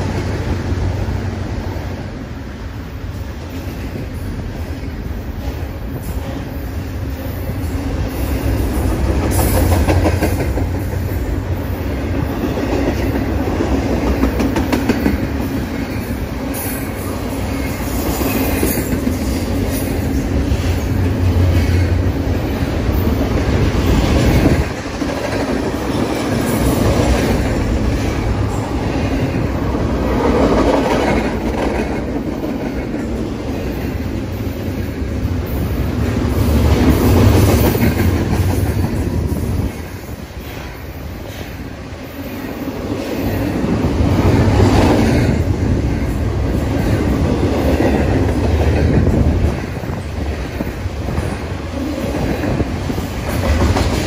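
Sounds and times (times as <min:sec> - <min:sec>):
freight train cars rumbling past: 0:00.0 - 0:54.0.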